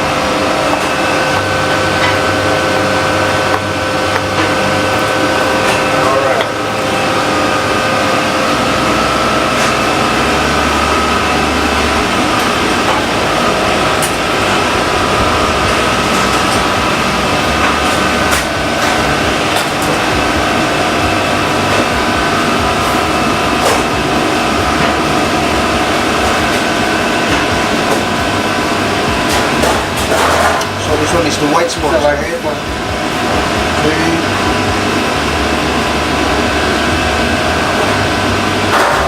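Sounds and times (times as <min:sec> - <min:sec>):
machinery drone: 0:00.0 - 0:39.0.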